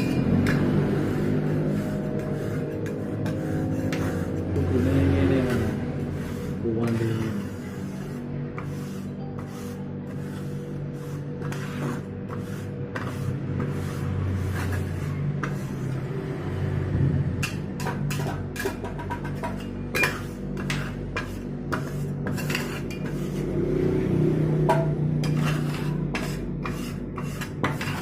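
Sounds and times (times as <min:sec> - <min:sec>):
metal spatulas scraping steel plate: 0:00.0 - 0:16.1, 0:17.4 - 0:23.6, 0:24.5 - 0:28.0
steady low hum: 0:00.0 - 0:28.0.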